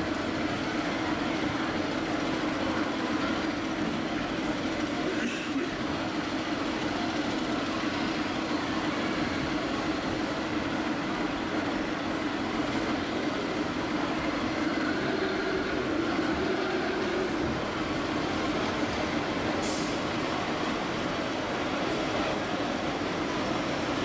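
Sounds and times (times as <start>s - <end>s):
simulated diesel engine running: 0.0s - 24.0s.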